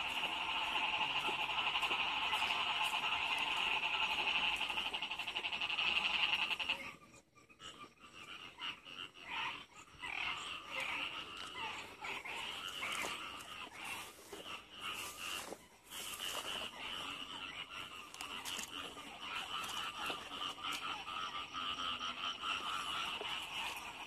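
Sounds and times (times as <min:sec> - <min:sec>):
frog croaks: 0:00.0 - 0:24.0
frogs chorus pulsing: 0:00.0 - 0:24.0.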